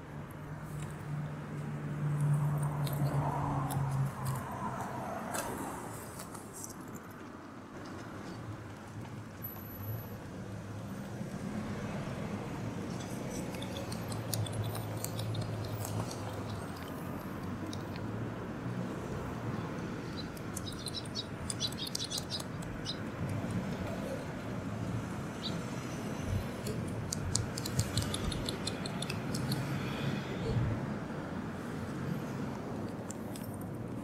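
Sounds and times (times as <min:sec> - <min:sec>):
distant traffic rumble: 0:00.0 - 0:34.0.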